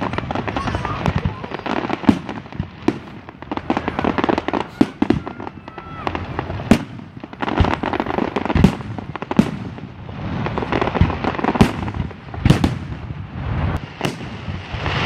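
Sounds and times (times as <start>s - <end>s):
small firework cracks: 0.0s - 15.0s.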